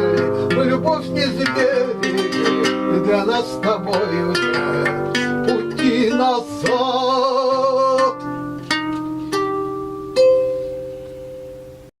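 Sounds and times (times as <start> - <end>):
plucked string chords: 0.0 - 11.9.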